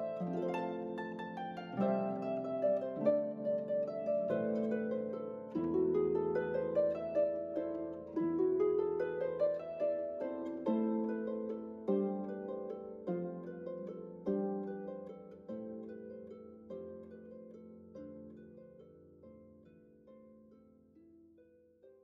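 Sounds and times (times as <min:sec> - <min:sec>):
plucked instrumental music: 0:00.0 - 0:22.0.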